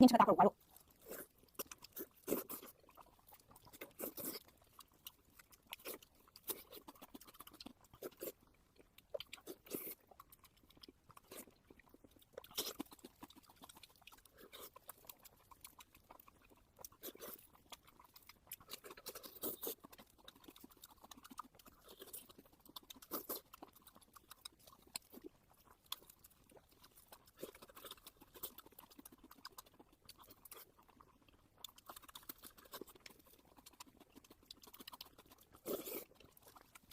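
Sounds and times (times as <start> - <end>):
person chewing and smacking: 0.2 - 36.9.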